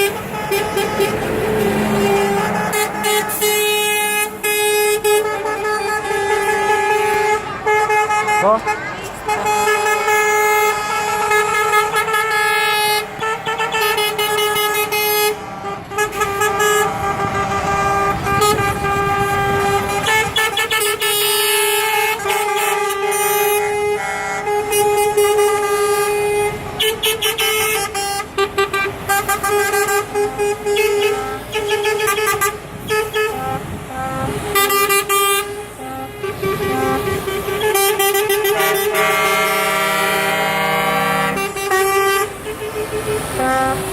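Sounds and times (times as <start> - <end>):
truck air horn blasts: 0.0 - 43.9
truck engines running: 0.0 - 43.9.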